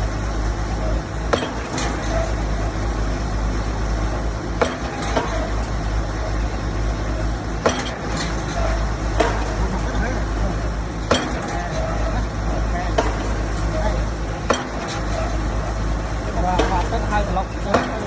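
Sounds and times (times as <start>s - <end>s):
heavy engine running: 0.0s - 18.0s.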